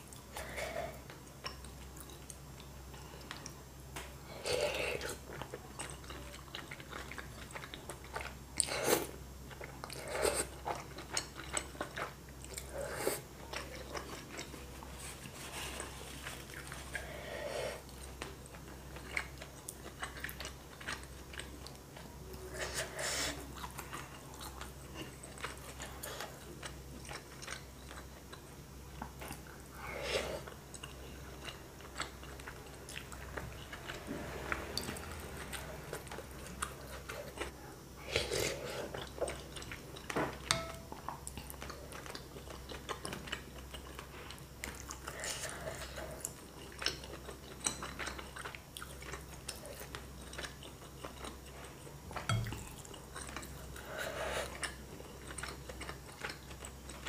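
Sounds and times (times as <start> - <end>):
wet chewing with mouth clicks: 0.1 - 57.0.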